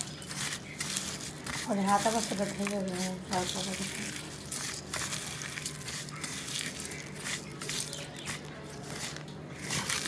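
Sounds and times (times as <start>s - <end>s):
fingers crushing dry chillies: 0.0s - 10.0s.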